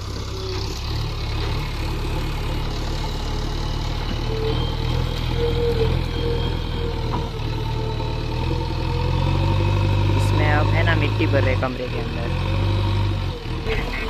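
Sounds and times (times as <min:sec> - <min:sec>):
heavy diesel engine droning: 0:00.0 - 0:14.0.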